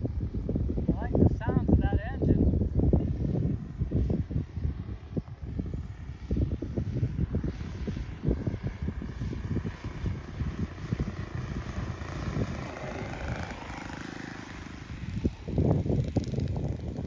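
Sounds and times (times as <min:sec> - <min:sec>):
model plane engine running: 0:00.0 - 0:17.0
wind on microphone: 0:00.0 - 0:17.0.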